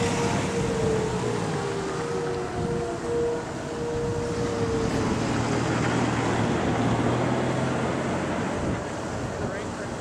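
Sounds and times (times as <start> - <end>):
distant warning siren: 0.0 - 10.0
wind noise on microphone: 0.0 - 10.0.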